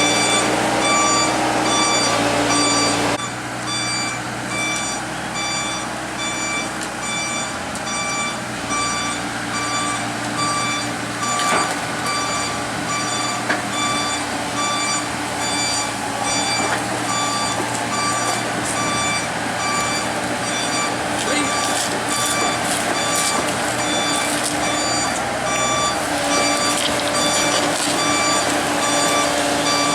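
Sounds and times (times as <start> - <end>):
diesel engine running: 0.0 - 29.9
excavator alarm beeping: 0.0 - 29.9.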